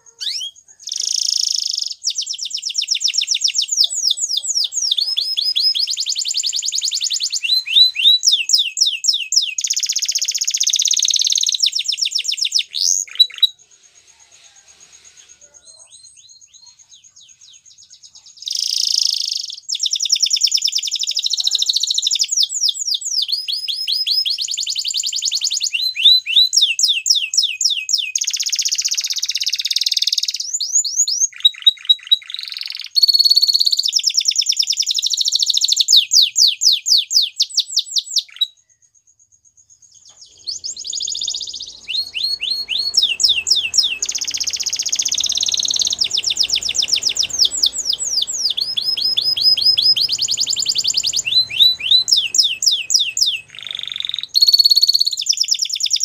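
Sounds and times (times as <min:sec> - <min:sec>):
canary singing trills: 0:00.0 - 0:38.9, 0:39.7 - 0:56.0.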